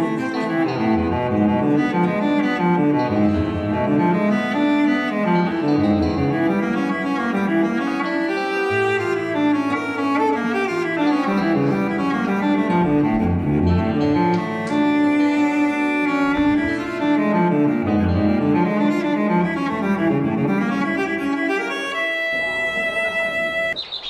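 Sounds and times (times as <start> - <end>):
dramatic orchestral strings: 0.0 - 23.8
piano notes: 0.0 - 23.8.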